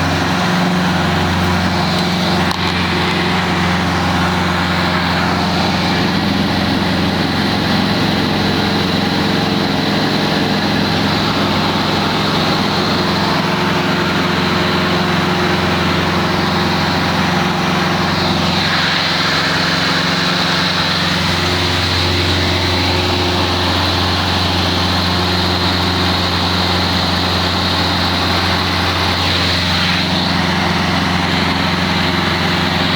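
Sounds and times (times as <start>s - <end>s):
light aircraft engines running: 0.0s - 32.9s.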